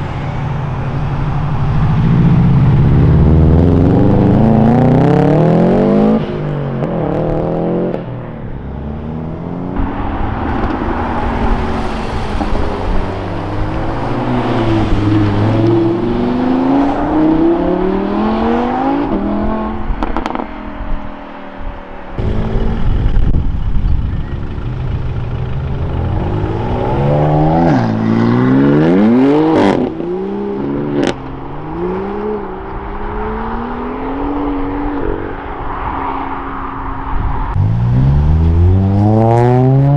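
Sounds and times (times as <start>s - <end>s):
car engines revving: 0.0s - 20.8s, 22.1s - 39.9s.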